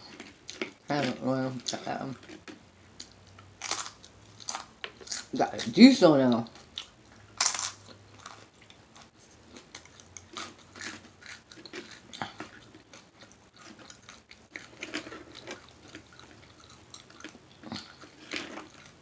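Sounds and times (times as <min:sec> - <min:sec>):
person chewing food: 0:00.0 - 0:00.8, 0:02.2 - 0:05.4, 0:06.4 - 0:19.0.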